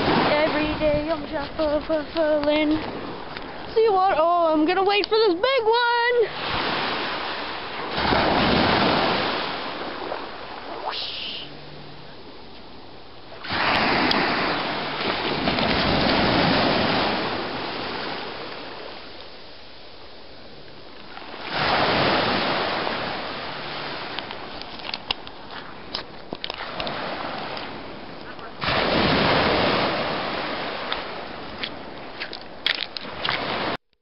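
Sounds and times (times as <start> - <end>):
ocean waves crashing on beach: 0.0 - 5.0, 5.7 - 12.4, 13.3 - 33.8.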